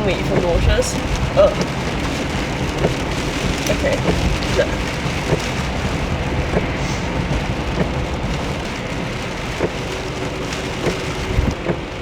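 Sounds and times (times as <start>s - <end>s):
heavy rain on car roof: 0.0s - 12.0s
low road rumble: 0.0s - 12.0s.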